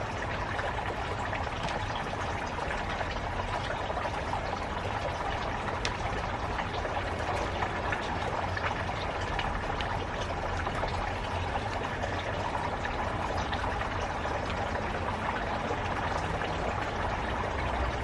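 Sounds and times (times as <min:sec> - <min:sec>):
running water splashing: 0:00.0 - 0:18.0.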